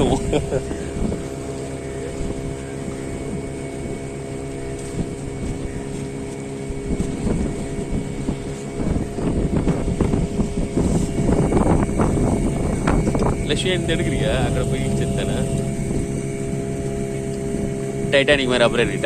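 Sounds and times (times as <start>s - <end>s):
motorboat engine running: 0.0s - 19.0s
water slapping against hull: 0.0s - 19.0s.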